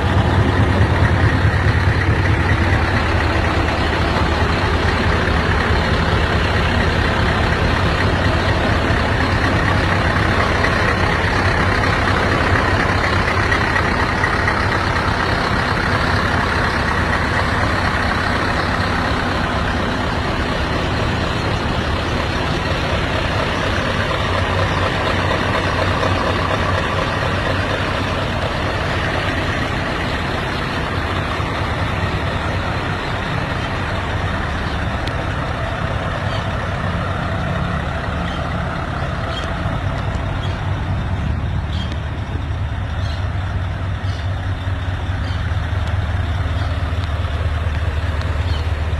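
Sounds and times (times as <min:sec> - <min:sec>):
diesel truck engines droning: 0:00.0 - 0:48.9.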